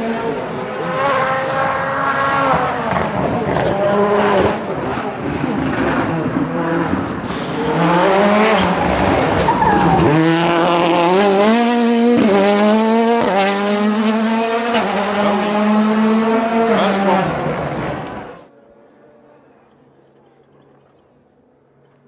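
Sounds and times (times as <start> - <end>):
rally car engine accelerating: 0.0 - 18.5.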